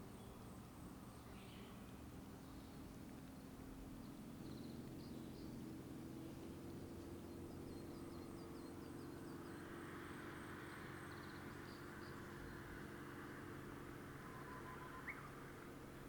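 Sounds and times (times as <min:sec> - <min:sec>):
small birds singing: 0:00.0 - 0:05.7, 0:06.3 - 0:13.6, 0:14.2 - 0:15.4
road traffic hum: 0:00.0 - 0:16.0.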